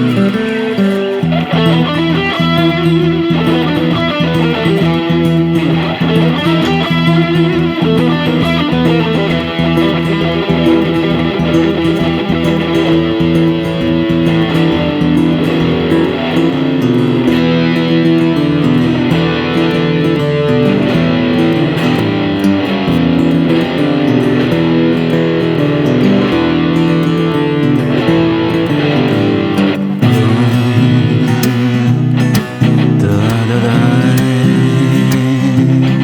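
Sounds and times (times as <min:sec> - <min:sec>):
guitar melody over bass and beat: 0:00.0 - 0:36.0.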